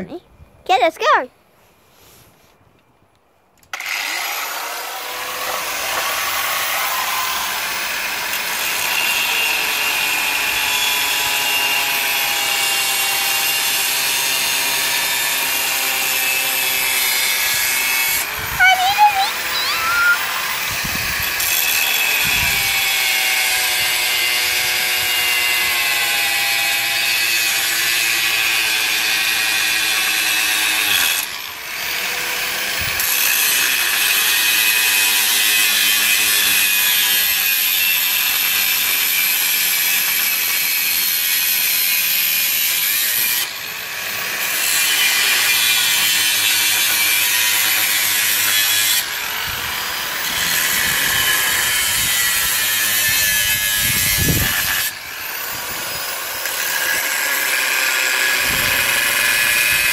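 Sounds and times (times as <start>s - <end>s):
angle grinder cutting steel: 3.7s - 59.9s.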